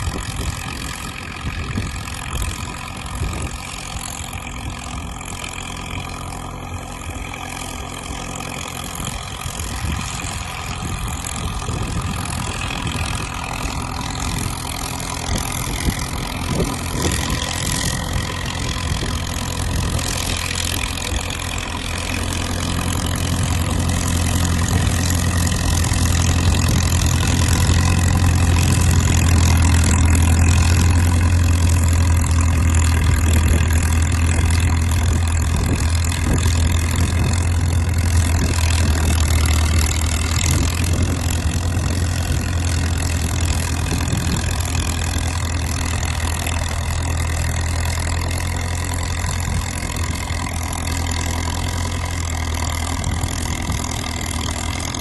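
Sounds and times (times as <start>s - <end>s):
dozer diesel engine humming: 0.0s - 55.0s.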